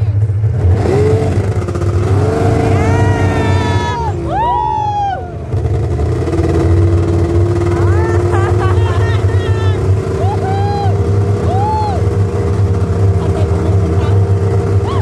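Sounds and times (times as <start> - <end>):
snowmobile engines running: 0.0 - 15.0.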